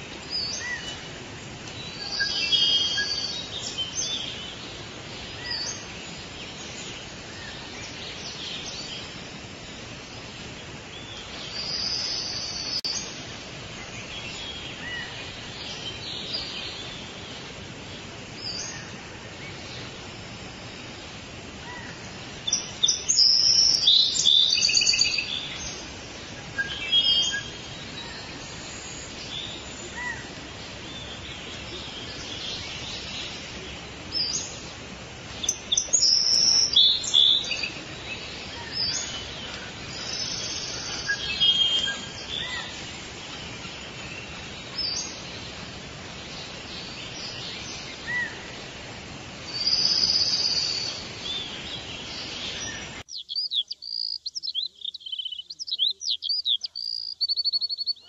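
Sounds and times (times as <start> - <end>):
songbirds chirping and trilling: 0.0 - 58.0
steady background hiss: 0.0 - 58.0.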